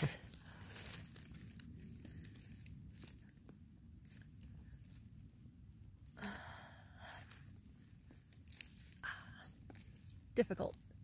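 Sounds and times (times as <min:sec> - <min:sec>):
crackling and rustling of soil: 0:00.0 - 0:11.0.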